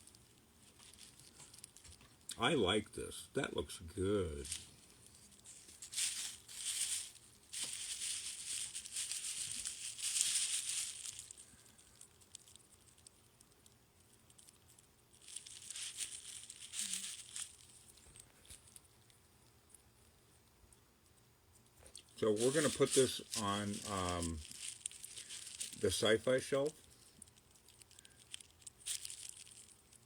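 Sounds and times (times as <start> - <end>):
packaging crinkling and rustling: 0.0 - 2.3, 4.0 - 19.1, 21.8 - 30.0.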